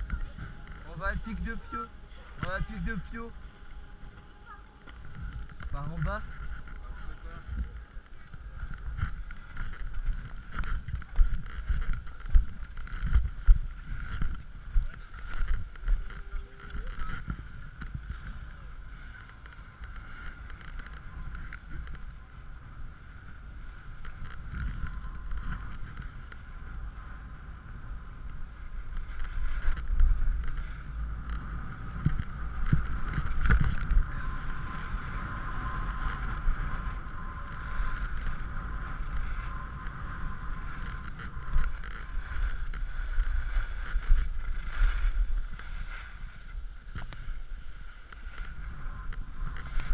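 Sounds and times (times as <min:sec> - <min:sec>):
skis scraping over snow: 0:00.0 - 0:49.9
wind buffeting microphone: 0:00.0 - 0:49.9.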